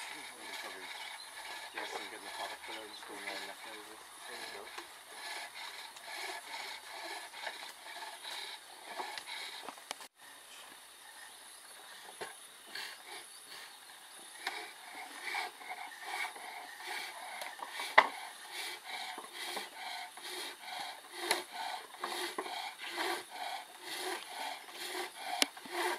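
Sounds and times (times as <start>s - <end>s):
turning tools cutting spinning wood: 0.0s - 10.2s, 11.0s - 25.9s.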